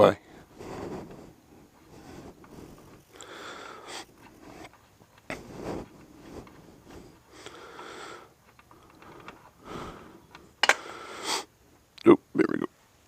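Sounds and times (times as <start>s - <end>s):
person breathing heavily: 0.2s - 11.6s.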